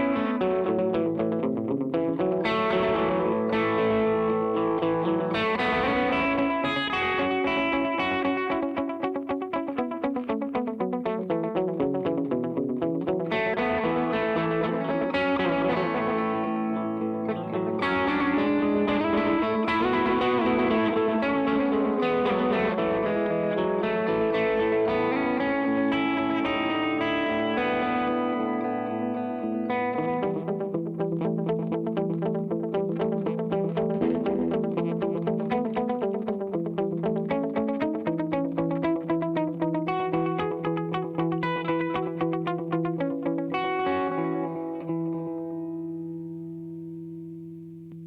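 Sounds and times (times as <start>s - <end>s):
electric guitar with reverb and delay: 0.0s - 48.0s.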